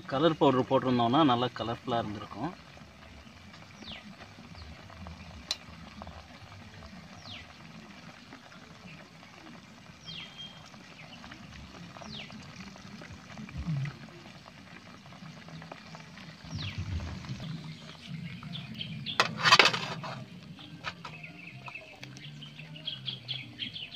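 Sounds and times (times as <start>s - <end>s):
hot oil sizzling: 0.0s - 23.9s.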